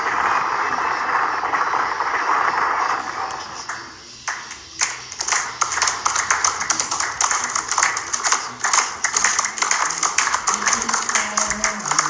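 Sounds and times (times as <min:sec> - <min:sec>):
applause: 0:00.0 - 0:12.0.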